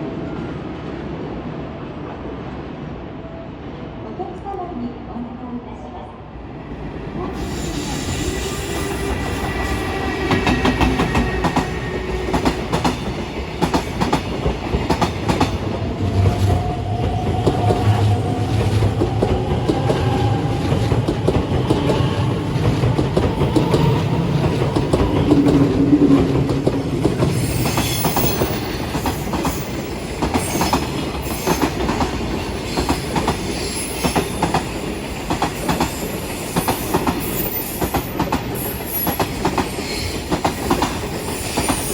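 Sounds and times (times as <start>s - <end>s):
train wheels clattering over rails: 7.4s - 41.9s.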